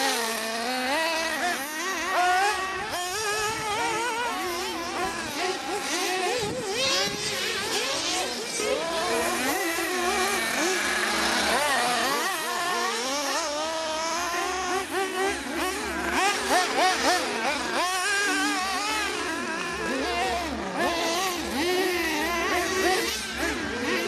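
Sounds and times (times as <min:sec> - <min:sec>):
high-pitched model buggy engines: 0:00.0 - 0:24.0.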